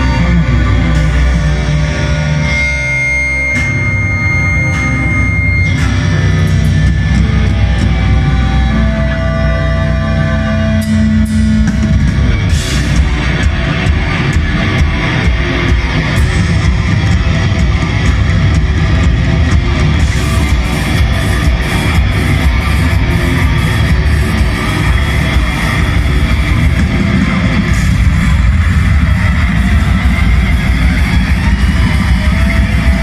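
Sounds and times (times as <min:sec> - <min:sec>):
metal band playing live: 0:00.0 - 0:33.0.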